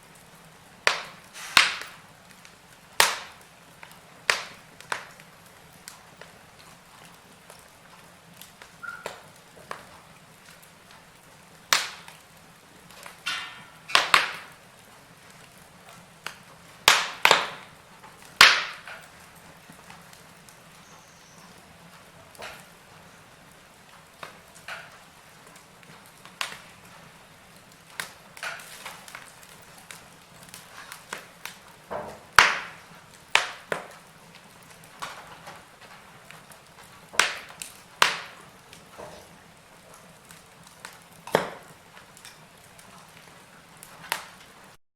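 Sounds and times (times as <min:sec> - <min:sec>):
fire pops and snaps: 0:00.0 - 0:44.8
wood fire crackling: 0:00.0 - 0:44.8.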